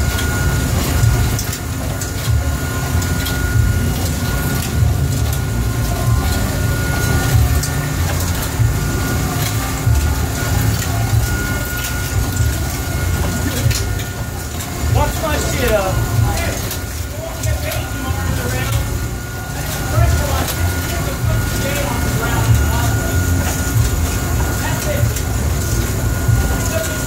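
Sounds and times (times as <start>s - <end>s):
hydraulic machinery drone: 0.0s - 27.0s
thin steady whine: 0.0s - 27.0s.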